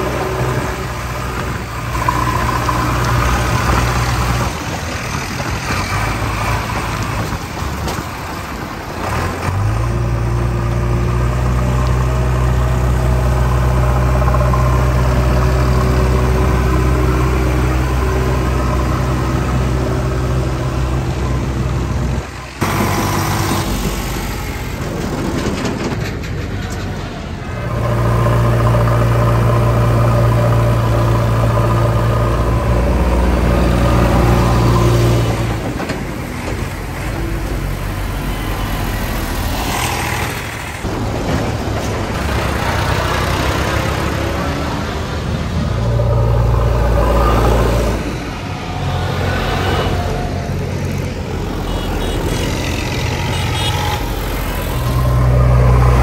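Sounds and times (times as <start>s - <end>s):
tractor diesel engines driving past: 0.0s - 56.0s.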